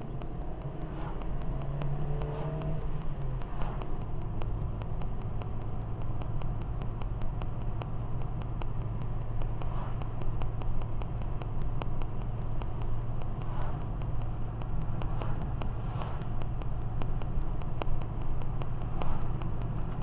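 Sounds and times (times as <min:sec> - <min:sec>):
car engine hum: 0:00.0 - 0:20.0
faint regular ticking: 0:00.0 - 0:20.0
tyre noise on road: 0:00.0 - 0:20.0.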